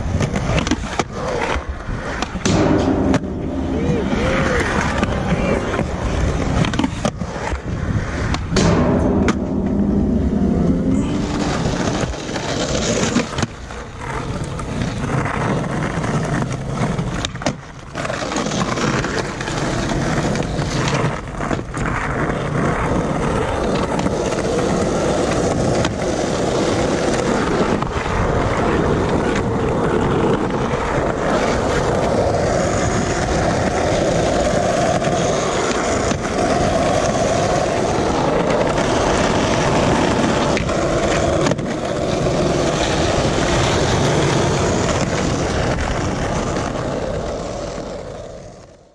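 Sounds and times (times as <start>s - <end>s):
skateboard clacking on ground: 0.0s - 48.9s
skateboard wheels rolling on concrete: 0.0s - 48.9s.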